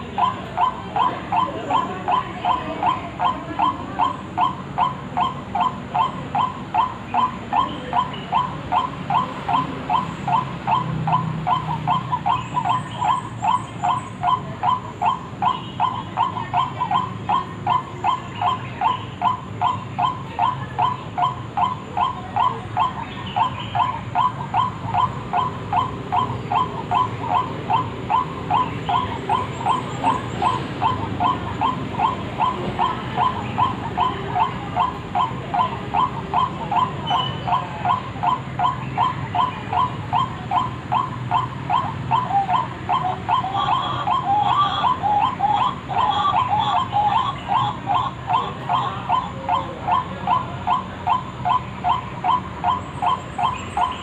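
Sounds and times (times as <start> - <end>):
waterhen call repeated: 0.0 - 54.0.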